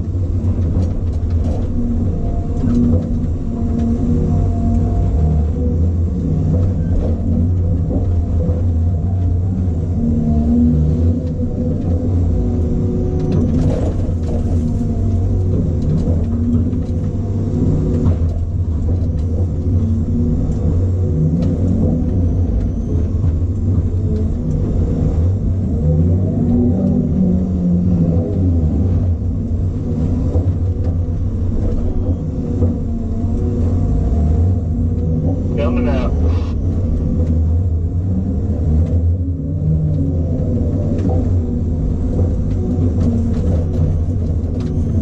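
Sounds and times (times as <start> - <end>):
hydraulics whining: 0.0 - 38.1
diesel engine hum: 0.0 - 45.0.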